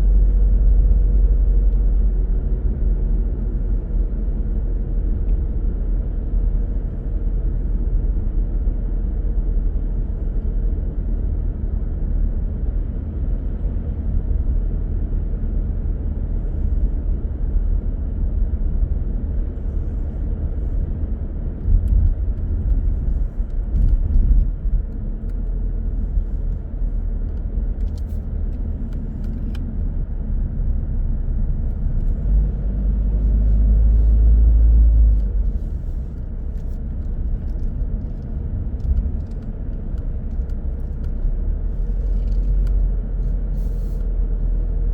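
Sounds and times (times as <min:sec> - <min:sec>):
car engine and tyre rumble: 0:00.0 - 0:44.9.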